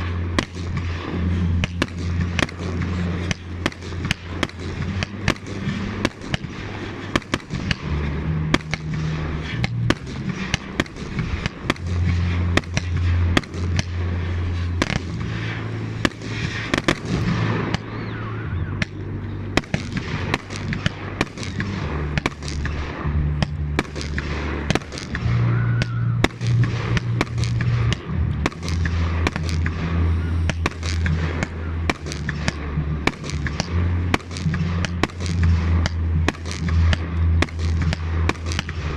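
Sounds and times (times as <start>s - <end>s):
fireworks bursting and banging: 0.0s - 38.9s
low drone: 0.0s - 38.9s.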